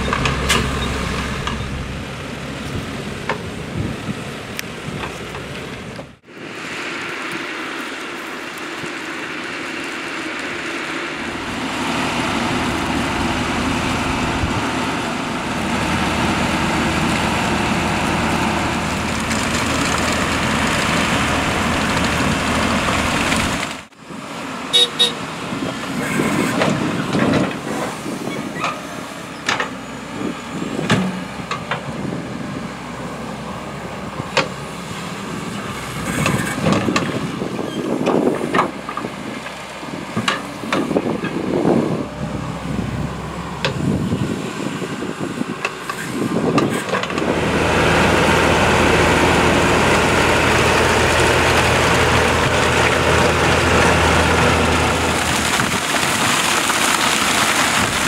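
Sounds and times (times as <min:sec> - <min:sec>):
excavator engine running: 0:00.0 - 0:58.0
tractor engine running: 0:00.0 - 0:58.0.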